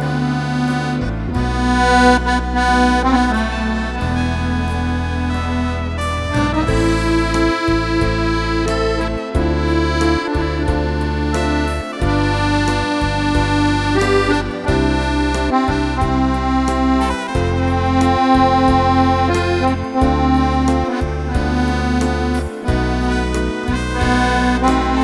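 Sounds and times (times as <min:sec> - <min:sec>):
accordion melody: 0:00.0 - 0:25.0.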